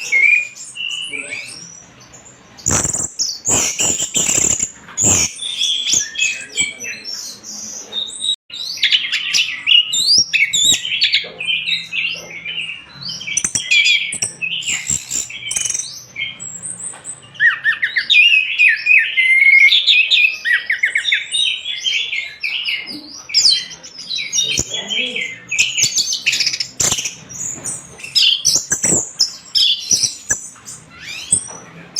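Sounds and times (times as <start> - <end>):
bird singing whistles and chirps: 0.0 - 2.0, 2.6 - 31.6.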